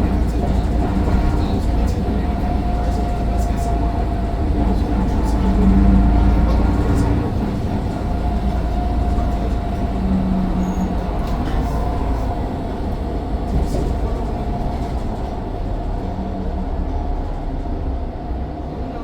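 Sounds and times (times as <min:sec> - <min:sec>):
bus engine low drone: 0:00.0 - 0:19.0.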